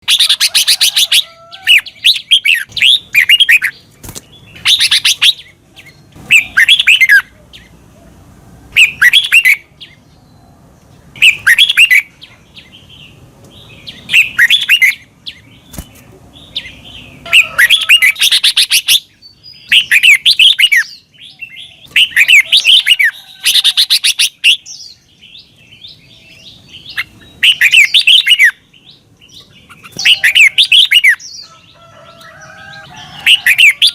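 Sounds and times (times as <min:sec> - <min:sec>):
bird singing warbling phrases: 0:00.0 - 0:33.9.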